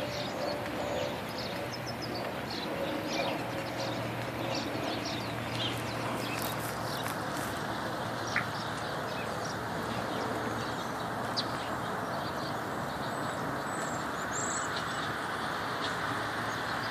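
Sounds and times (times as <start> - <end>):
finches chirping: 0.0 - 15.1.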